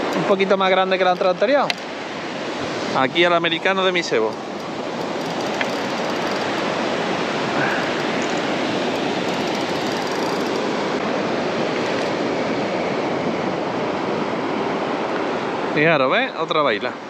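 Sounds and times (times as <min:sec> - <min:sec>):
sea surf on shore: 0:00.0 - 0:17.0.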